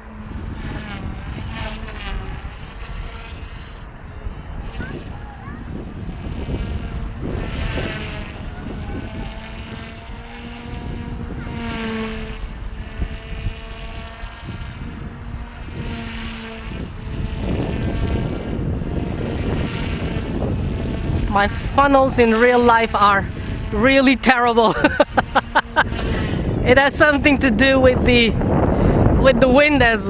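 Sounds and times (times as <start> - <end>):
rotor swish: 0.0 - 27.4
rc helicopter motor whine: 0.0 - 30.0
wind buffeting microphone: 0.0 - 30.0.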